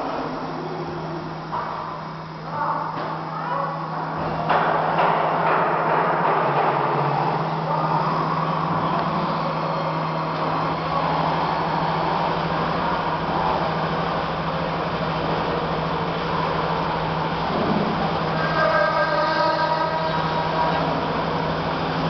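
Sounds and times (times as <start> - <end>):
cnc spindle hum: 0.0 - 22.0.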